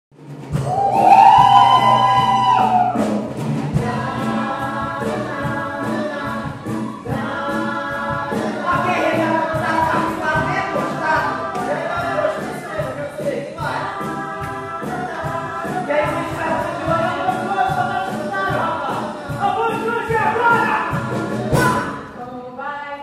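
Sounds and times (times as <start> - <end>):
live band playing: 0.2 - 22.2
voices singing together: 0.8 - 22.2.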